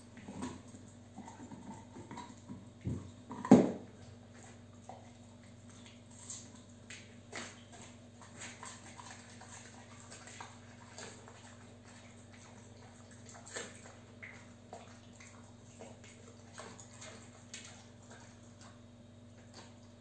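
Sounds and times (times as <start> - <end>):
pet water fountain hum and trickle: 0.0 - 20.0.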